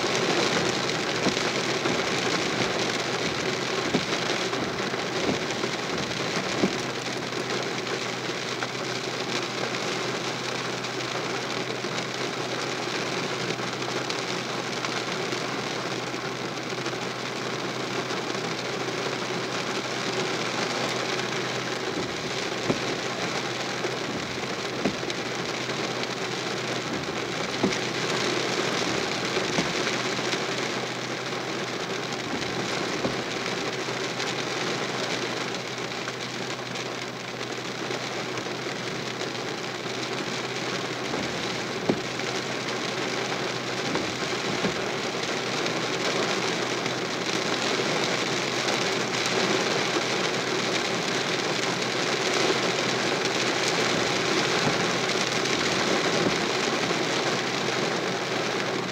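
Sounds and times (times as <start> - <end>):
rain on car windshield: 0.0 - 58.9.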